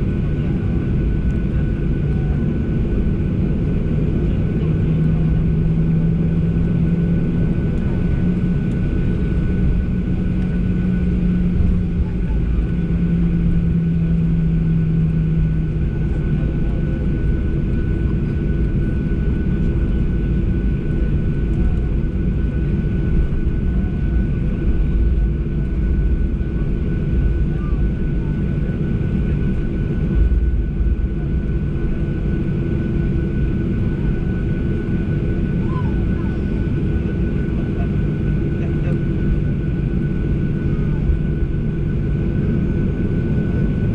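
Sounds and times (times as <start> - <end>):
jet engine cabin rumble: 0.0 - 43.9.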